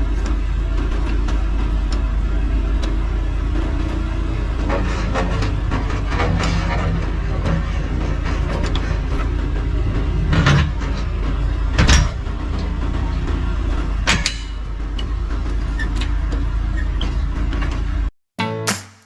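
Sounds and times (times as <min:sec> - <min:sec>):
engine low rumble: 0:00.0 - 0:18.1.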